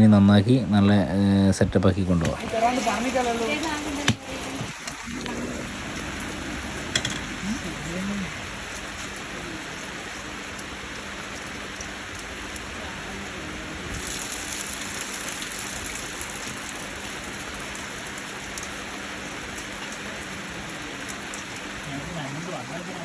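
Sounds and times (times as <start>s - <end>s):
steady rain falling: 0.2s - 23.0s.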